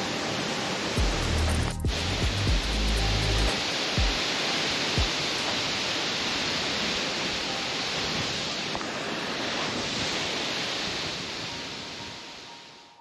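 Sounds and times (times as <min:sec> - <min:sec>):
waterfall rushing water: 0:00.0 - 0:12.9.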